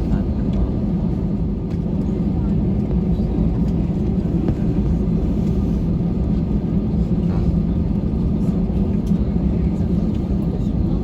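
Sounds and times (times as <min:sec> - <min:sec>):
jet engine cabin roar: 0:00.0 - 0:11.0.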